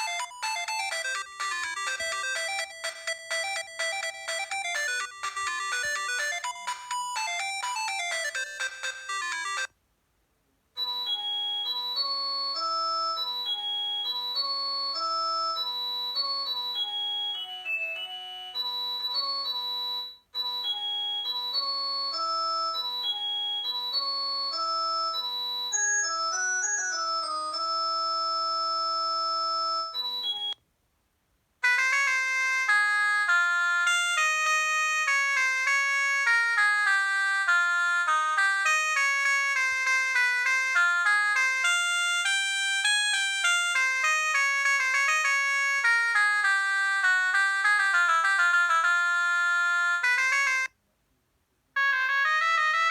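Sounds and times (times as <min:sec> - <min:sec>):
busier ringtone tune: 0:00.0 - 0:09.8, 0:10.8 - 0:30.6, 0:31.6 - 0:50.8, 0:51.8 - 0:52.9
synthesized ringtone melody: 0:00.0 - 0:09.8, 0:10.8 - 0:30.6, 0:31.6 - 0:50.8, 0:51.8 - 0:52.9.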